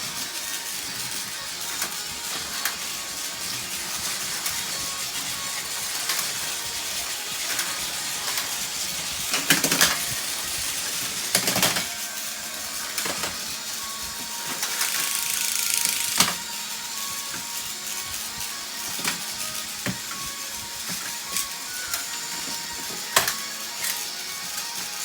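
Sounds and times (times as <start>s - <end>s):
toy train clicking: 0.0s - 25.0s
toy trains whirring: 0.0s - 25.0s.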